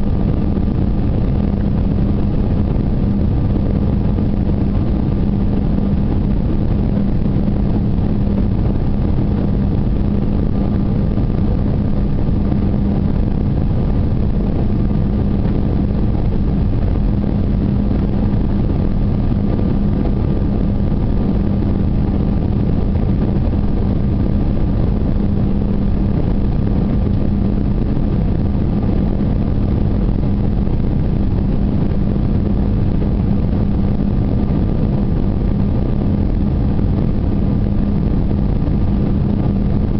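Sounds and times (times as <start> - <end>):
airliner engine drone: 0.0 - 39.9
low hum: 0.0 - 39.9.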